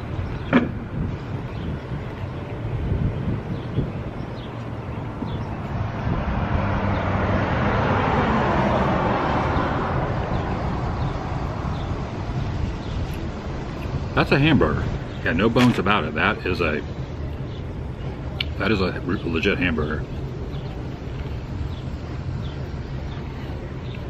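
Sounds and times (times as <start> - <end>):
passing vehicle rush: 0.0 - 24.0.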